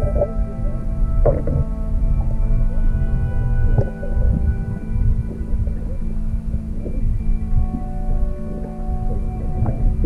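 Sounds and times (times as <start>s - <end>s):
background music sustained notes: 0.0s - 10.0s
low rumble: 0.0s - 10.0s.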